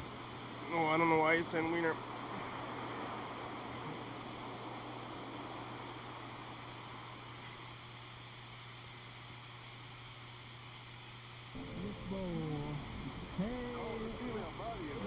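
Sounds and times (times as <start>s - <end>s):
low electrical hum: 0.0s - 15.0s
steady hiss: 0.0s - 15.0s.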